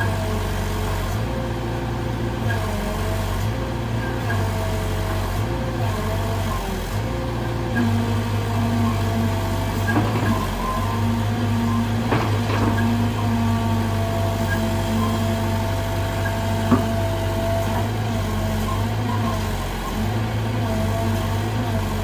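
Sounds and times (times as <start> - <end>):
diesel engine running: 0.0 - 22.0
hydraulic whine: 0.0 - 22.0.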